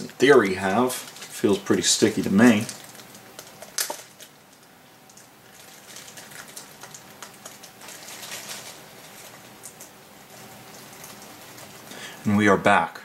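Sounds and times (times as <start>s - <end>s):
stiff plastic wrapping crinkling: 0.0s - 12.0s.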